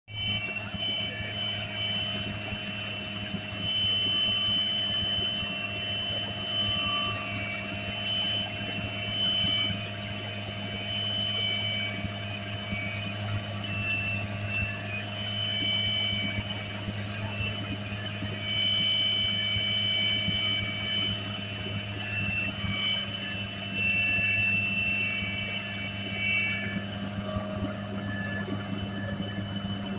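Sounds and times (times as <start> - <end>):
helicopter rotor and engine drone: 0.1 - 29.9
high steady whine: 0.1 - 29.9.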